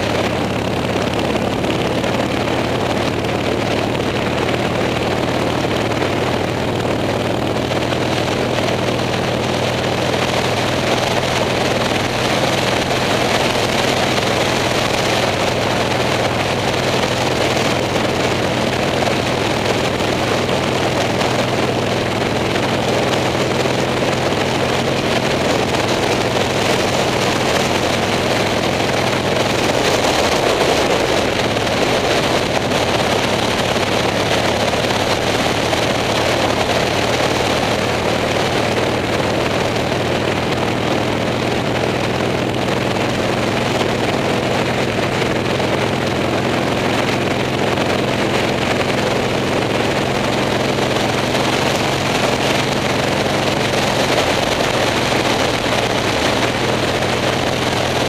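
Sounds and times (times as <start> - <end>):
motorcycle engine running: 0.0 - 58.0
wind rushing past microphone: 0.0 - 58.0.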